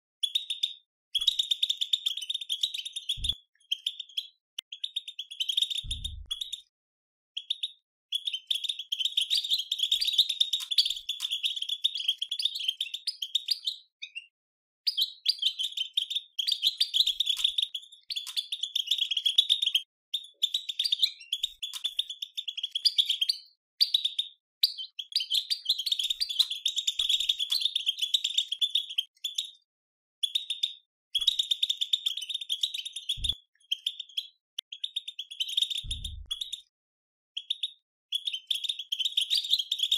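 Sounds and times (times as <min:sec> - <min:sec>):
goldfinch twittering song: 0:00.2 - 0:06.7, 0:07.4 - 0:29.6, 0:30.2 - 0:36.7, 0:37.4 - 0:39.9.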